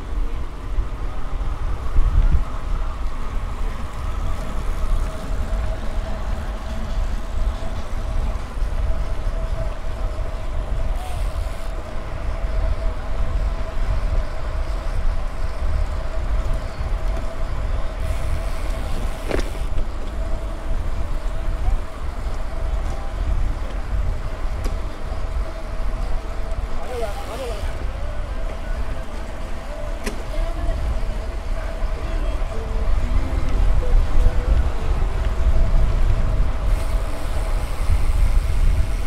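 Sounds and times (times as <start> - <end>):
bicycle road noise: 0.0 - 39.0
wind buffeting microphone: 0.0 - 39.0.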